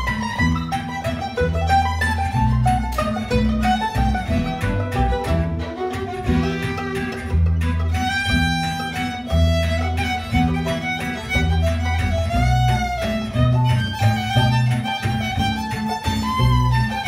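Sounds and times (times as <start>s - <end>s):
plucked double bass: 0.0s - 17.0s
strummed guitar and mandolin: 0.0s - 17.0s
violin melody: 0.0s - 17.0s.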